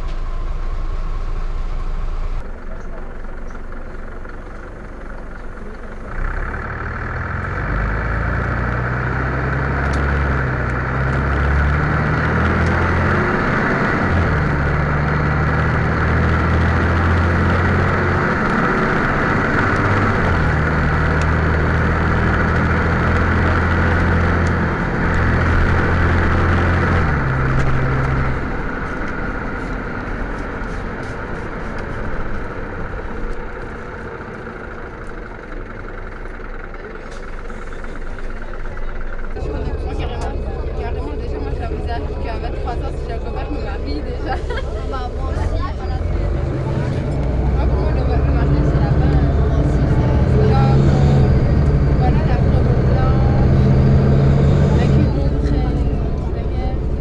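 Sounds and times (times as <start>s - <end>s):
bus engine accelerating: 0.0s - 57.0s.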